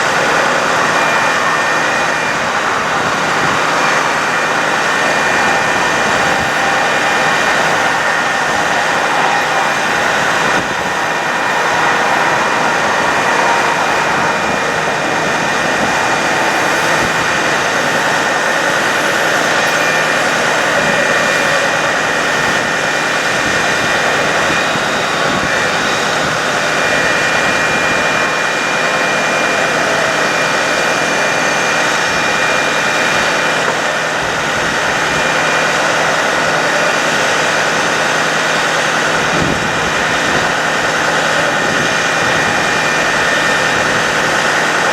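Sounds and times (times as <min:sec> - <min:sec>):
steady high whine: 0:00.0 - 0:44.9
truck engine running: 0:00.0 - 0:44.9.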